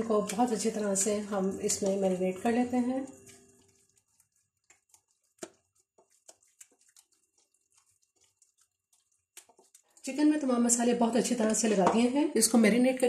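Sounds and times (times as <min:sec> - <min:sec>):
hand kneading marinade into chicken: 0:00.0 - 0:12.1.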